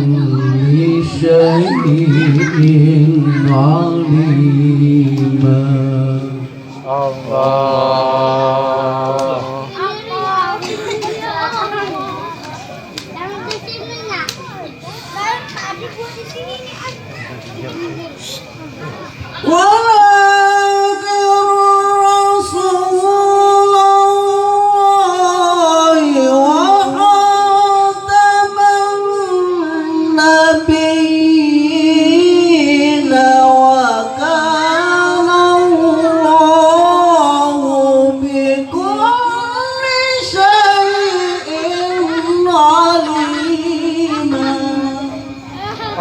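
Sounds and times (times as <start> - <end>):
person reciting melodically: 0.0 - 12.8, 17.7 - 46.0.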